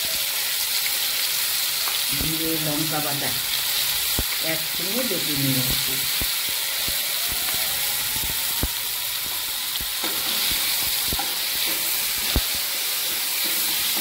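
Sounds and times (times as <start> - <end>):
oil sizzling in a pan: 0.0 - 14.0.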